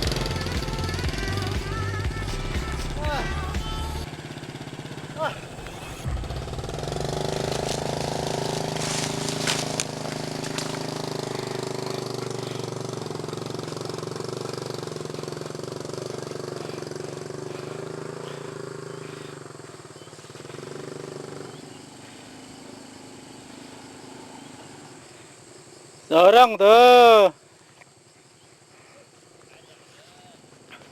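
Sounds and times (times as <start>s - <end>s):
motorcycle engine running: 0.0s - 26.1s.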